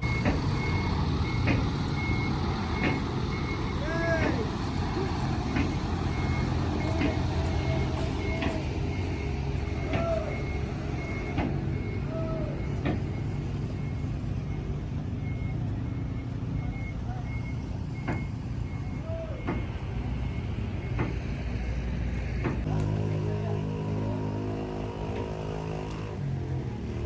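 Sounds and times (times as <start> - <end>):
reversing beeper: 0.0 - 21.7
bus engine idling: 0.0 - 27.0.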